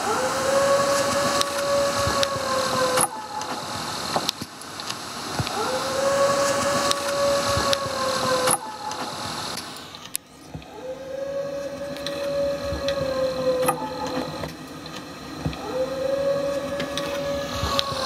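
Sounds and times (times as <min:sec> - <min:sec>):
wild canid howling: 0:00.0 - 0:04.1, 0:05.4 - 0:09.6, 0:10.6 - 0:18.0
steady hiss: 0:00.0 - 0:18.0
faint clicks: 0:00.8 - 0:05.8, 0:06.4 - 0:10.8, 0:11.5 - 0:18.0.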